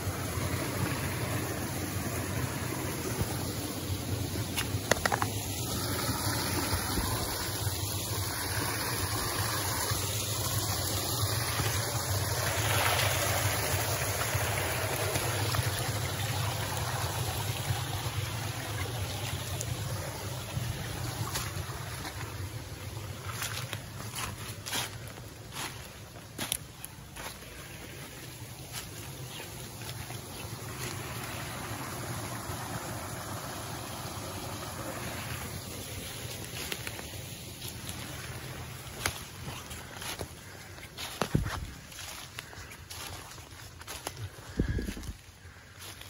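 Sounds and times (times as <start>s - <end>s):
flowing creek rushing: 0.0s - 46.0s.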